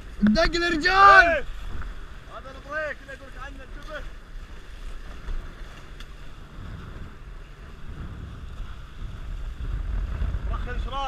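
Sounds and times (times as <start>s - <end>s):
water rushing along hulls: 0.0s - 11.0s
wind buffeting microphone: 0.0s - 11.0s.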